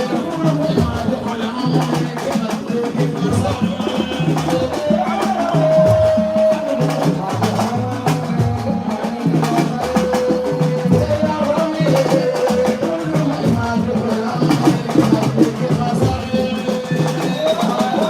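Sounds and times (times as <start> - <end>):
music with percussion and bass: 0.0 - 18.0.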